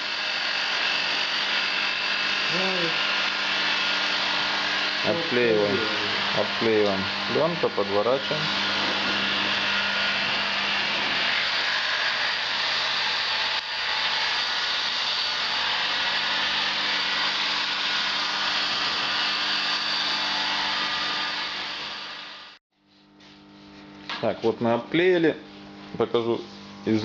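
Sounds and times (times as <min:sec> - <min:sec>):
power tool hissing: 0:00.0 - 0:22.6.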